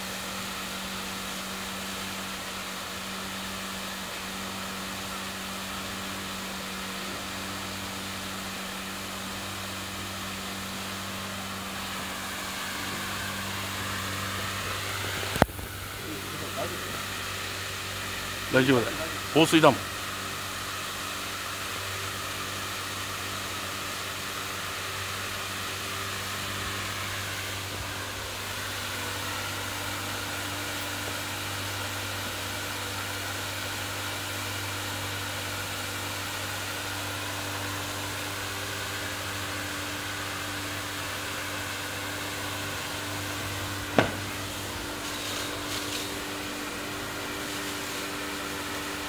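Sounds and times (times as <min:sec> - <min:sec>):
fire hose water hissing: 0:00.0 - 0:49.0
pump engine hum: 0:00.0 - 0:49.0.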